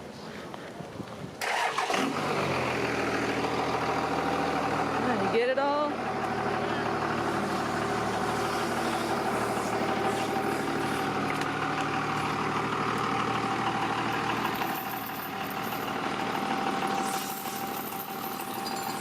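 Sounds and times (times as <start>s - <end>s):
engine idling: 1.4s - 19.0s.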